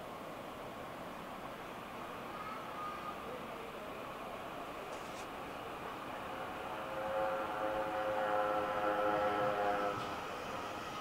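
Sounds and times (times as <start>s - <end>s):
faint train rumble: 0.0s - 11.0s.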